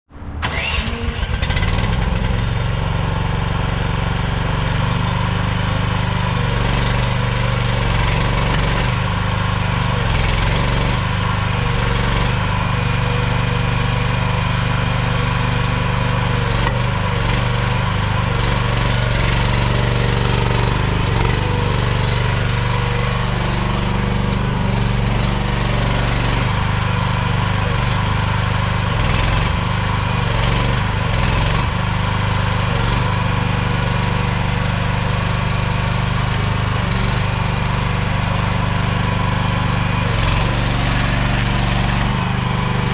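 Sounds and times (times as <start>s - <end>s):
excavator engine running: 0.1s - 42.9s.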